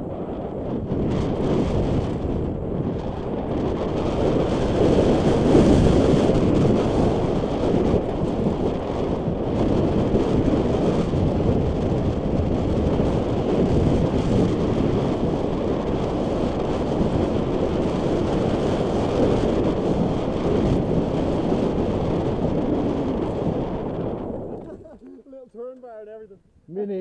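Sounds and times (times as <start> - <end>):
wind rumble on microphone: 0.0 - 25.8.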